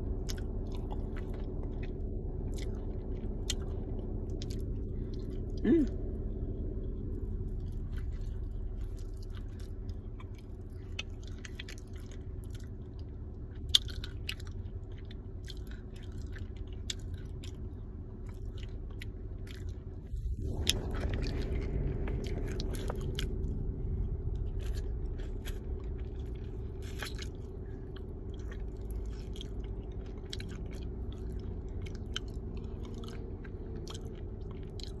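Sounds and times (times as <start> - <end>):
crisp chewing crunches: 0.0 - 35.0
steady low hum: 0.0 - 35.0.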